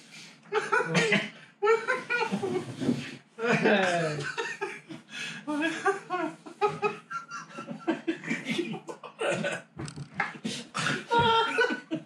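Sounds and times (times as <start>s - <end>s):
men laughing hard: 0.5s - 2.7s, 3.4s - 12.0s.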